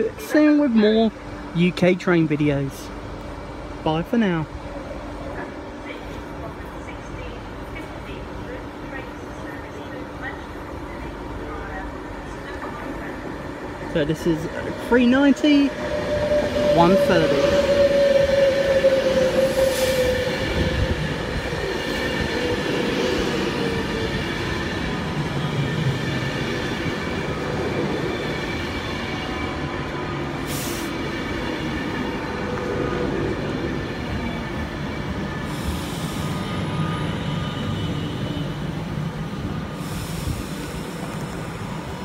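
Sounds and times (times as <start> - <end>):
electric train whine: 0.0 - 42.0.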